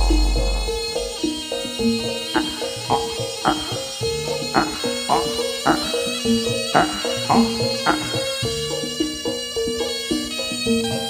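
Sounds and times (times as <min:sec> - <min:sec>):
drum strokes: 0:00.0 - 0:09.4
reed pipe high notes: 0:00.0 - 0:10.7
struck gamelan notes: 0:00.0 - 0:11.0.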